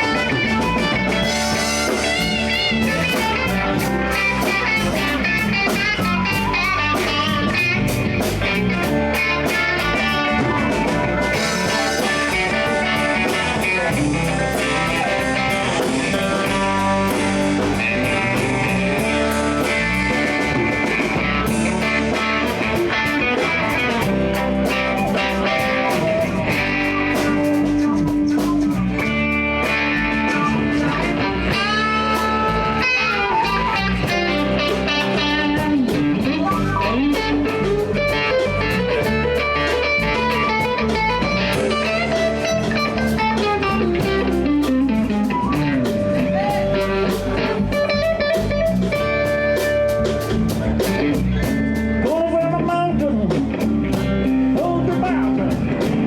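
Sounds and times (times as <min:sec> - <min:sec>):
bass guitar: 0:00.0 - 0:56.0
drum kit: 0:00.0 - 0:56.0
electric guitar with bent notes: 0:00.0 - 0:56.0.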